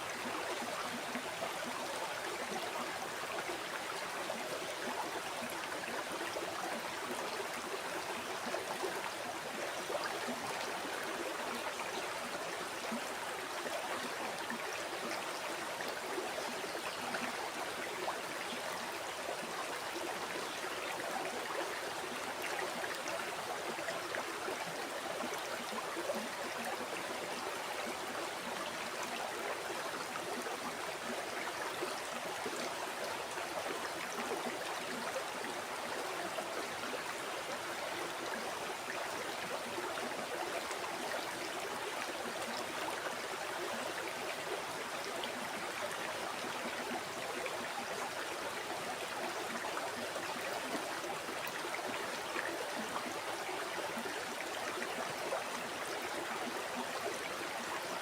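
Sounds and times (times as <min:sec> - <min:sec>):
river water babbling over stones: 0:00.0 - 0:58.0.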